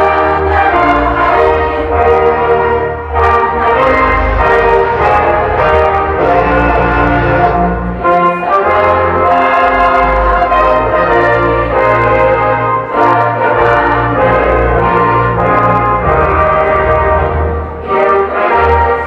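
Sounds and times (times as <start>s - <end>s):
steady bass line: 0.0s - 18.2s
instrumental choral music: 0.0s - 19.0s.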